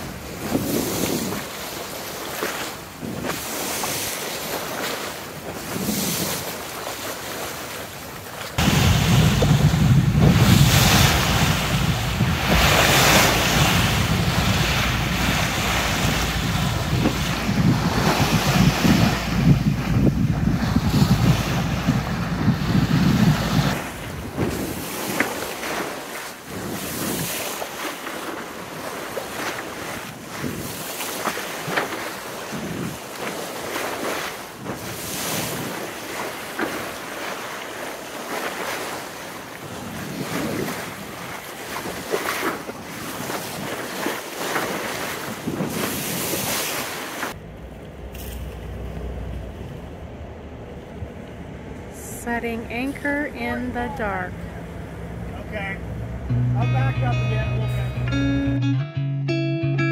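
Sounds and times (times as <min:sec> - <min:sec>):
wind buffeting microphone: 0:00.0 - 0:06.9, 0:08.6 - 0:56.4
water splashing along hull: 0:00.0 - 0:56.9.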